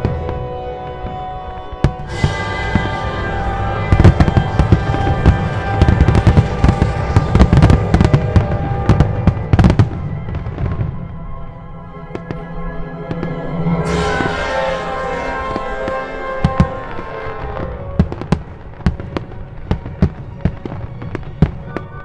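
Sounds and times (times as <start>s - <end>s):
music: 0.0s - 22.0s.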